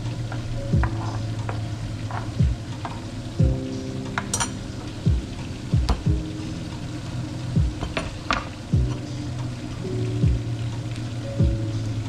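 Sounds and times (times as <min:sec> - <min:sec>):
music with deep bass beat: 0:00.0 - 0:12.0.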